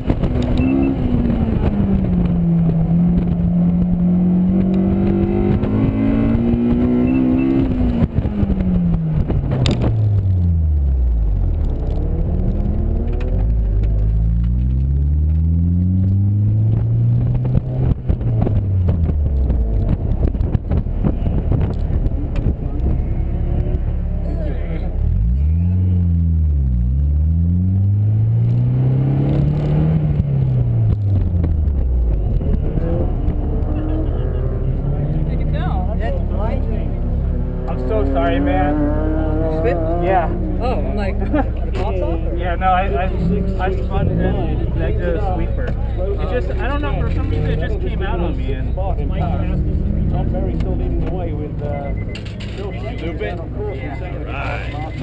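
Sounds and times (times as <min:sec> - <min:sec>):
car engine revving under load: 0:00.0 - 0:55.0.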